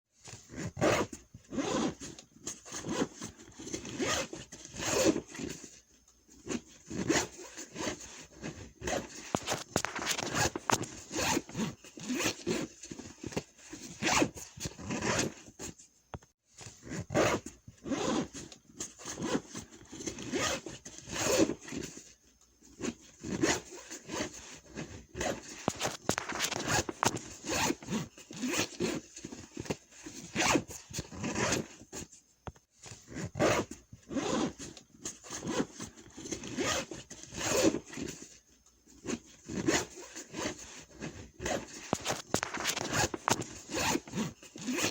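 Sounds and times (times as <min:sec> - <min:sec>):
backpack zippers opening and closing: 0:00.2 - 0:05.8, 0:06.4 - 0:15.8, 0:16.6 - 0:22.1, 0:22.7 - 0:32.1, 0:32.8 - 0:44.9.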